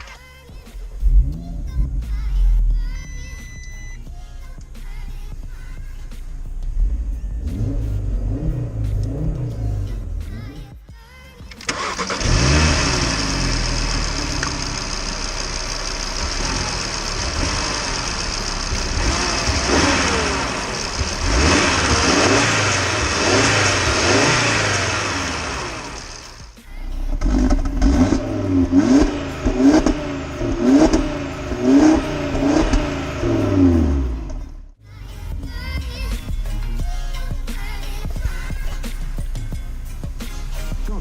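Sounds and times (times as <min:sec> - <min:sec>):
car engine revving: 0:00.0 - 0:03.9, 0:04.5 - 0:10.8, 0:11.6 - 0:41.0.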